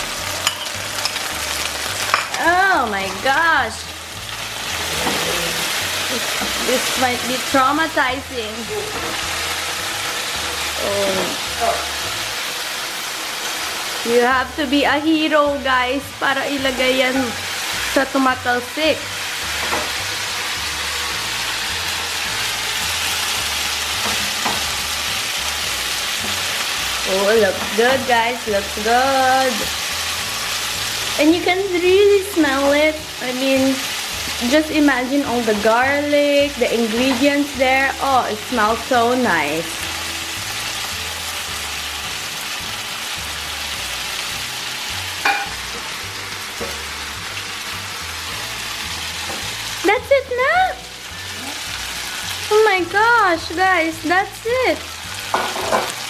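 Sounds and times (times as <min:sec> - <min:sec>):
chicken sizzling in frying pan: 0:00.0 - 0:56.0.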